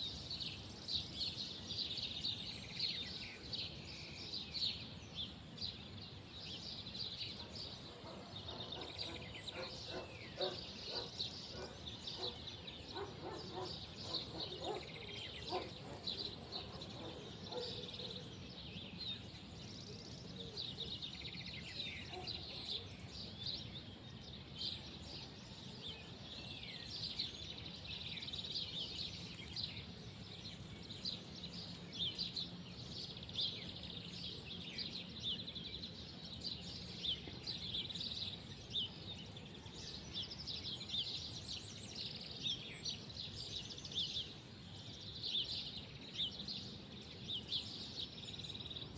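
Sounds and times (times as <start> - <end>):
low outdoor background hum: 0.0 - 48.9
small birds chirping: 0.0 - 48.9.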